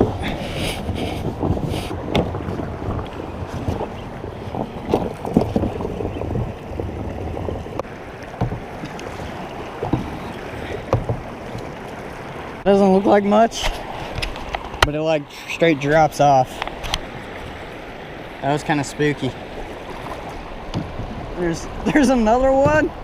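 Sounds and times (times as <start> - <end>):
knocks and splashes against hull: 0.0 - 15.0, 18.6 - 23.0
rushing creek water: 0.0 - 23.0.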